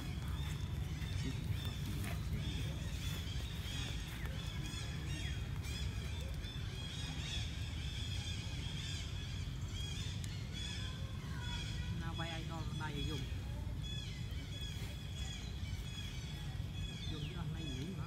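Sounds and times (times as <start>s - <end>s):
constant low rumble: 0.0s - 18.0s
small birds chirping: 0.0s - 18.0s.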